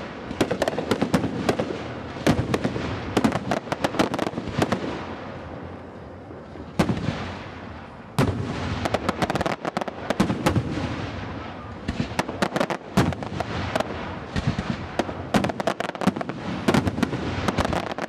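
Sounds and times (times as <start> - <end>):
fireworks bangs and crackling: 0.0 - 18.0
fireworks rumble: 0.0 - 18.0.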